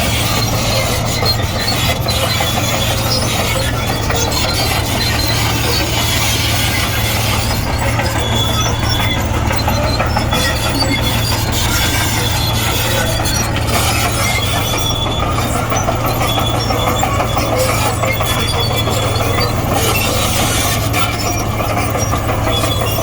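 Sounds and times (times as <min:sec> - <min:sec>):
diesel engine running: 0:00.0 - 0:23.0
short high squeals: 0:00.0 - 0:23.0
steel tracks clattering: 0:00.0 - 0:23.0.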